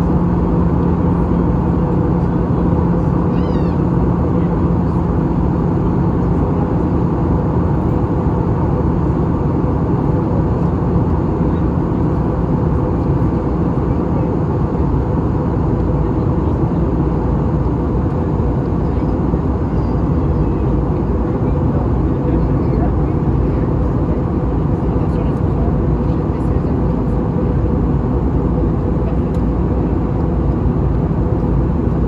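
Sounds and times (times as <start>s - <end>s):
airliner cabin engine drone: 0.0s - 32.0s.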